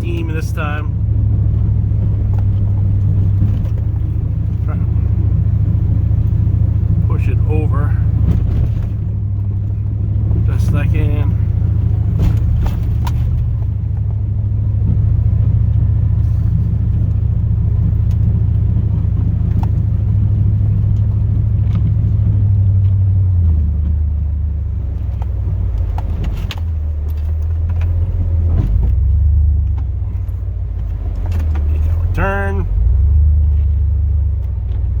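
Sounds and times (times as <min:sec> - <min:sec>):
truck engine rumbling under load: 0:00.0 - 0:35.0.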